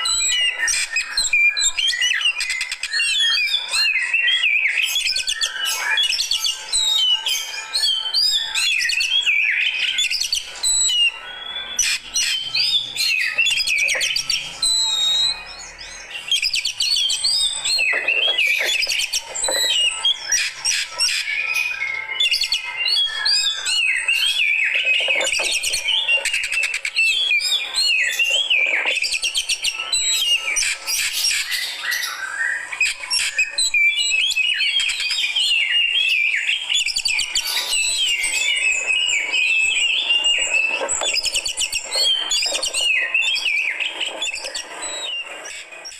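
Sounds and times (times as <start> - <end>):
bird singing chirps and trills: 0.0 - 45.9.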